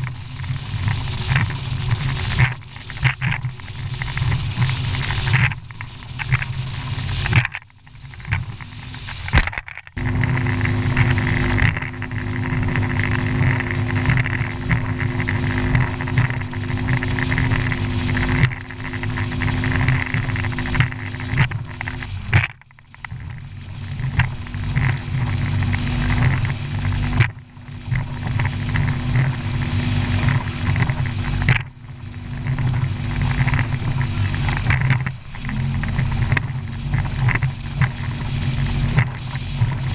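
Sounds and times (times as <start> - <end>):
outboard motor droning: 0.0 - 39.9
wind rumble on microphone: 0.0 - 39.9.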